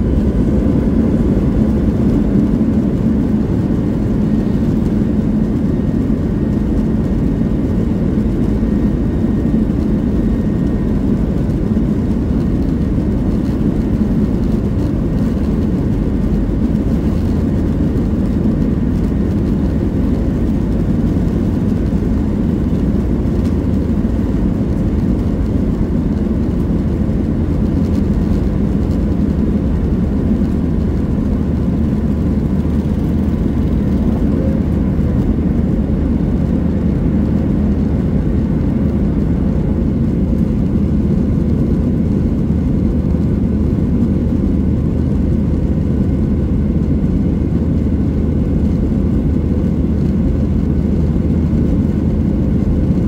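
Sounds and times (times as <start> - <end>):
jet engine cabin drone: 0.0 - 53.0.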